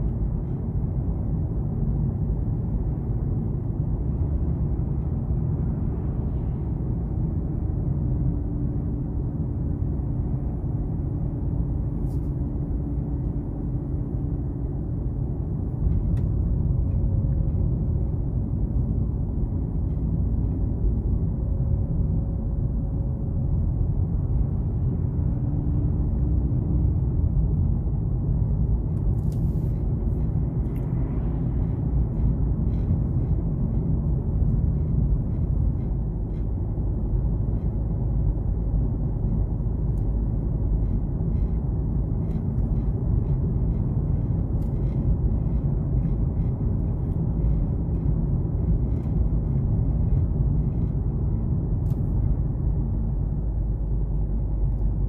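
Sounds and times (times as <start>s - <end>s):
car cabin road rumble: 0.0s - 55.0s.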